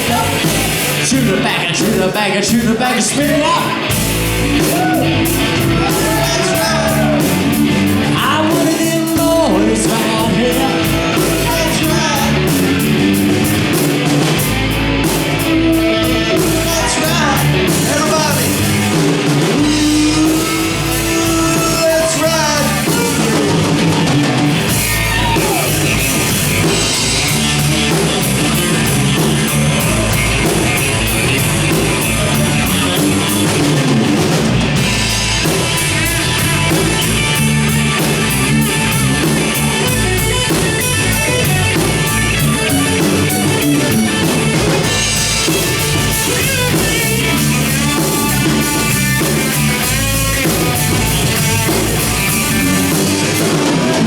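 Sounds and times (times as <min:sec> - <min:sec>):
country-rock band playing: 0:00.0 - 0:54.0.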